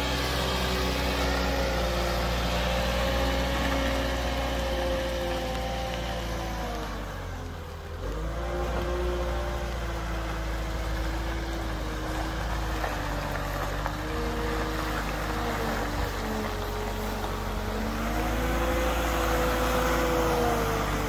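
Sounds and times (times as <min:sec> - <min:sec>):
wheel loader diesel engine: 0:00.0 - 0:21.0.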